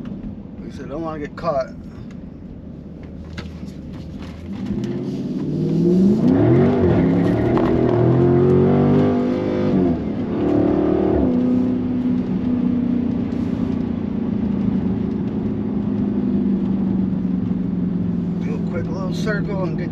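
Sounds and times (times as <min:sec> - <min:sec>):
car engine revving: 0:02.6 - 0:19.9.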